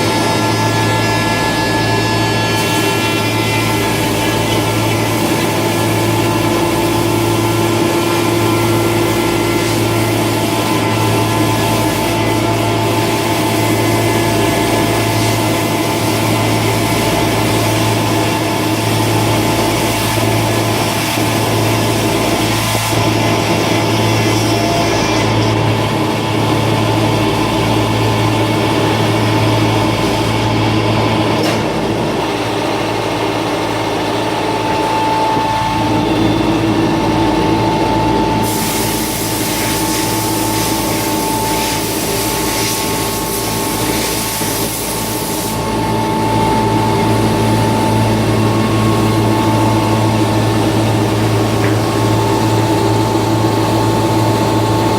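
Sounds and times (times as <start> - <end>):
high steady whine: 0.0 - 54.9
router machine humming: 0.0 - 54.9.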